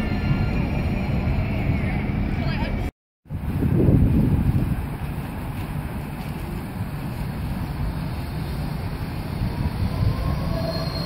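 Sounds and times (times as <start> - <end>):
street traffic rumble: 0.0 - 11.0
tram approaching: 0.0 - 11.0.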